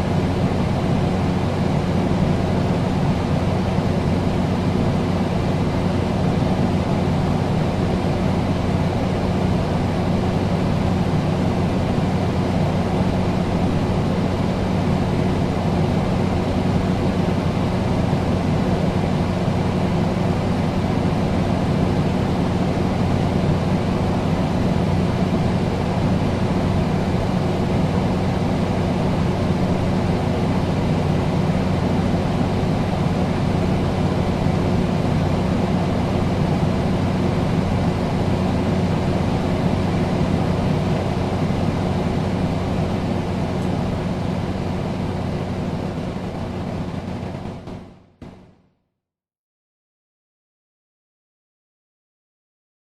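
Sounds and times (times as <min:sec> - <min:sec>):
air conditioner running: 0:00.0 - 0:48.5.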